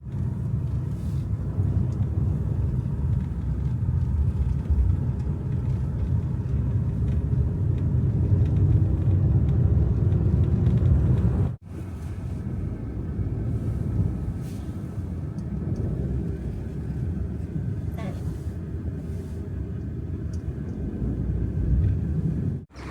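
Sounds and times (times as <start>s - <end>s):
road traffic: 0.0s - 22.9s
wind rumble: 0.0s - 22.9s.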